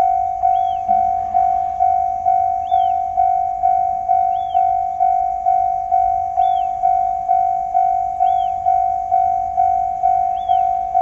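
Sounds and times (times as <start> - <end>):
faint chirp: 0.0 - 11.0
level crossing warning bell: 0.0 - 11.0.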